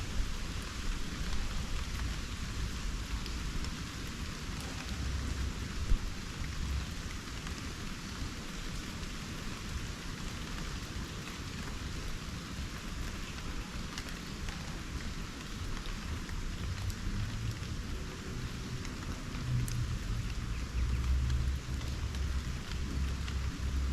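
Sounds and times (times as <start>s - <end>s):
rain falling on foliage: 0.0s - 23.9s.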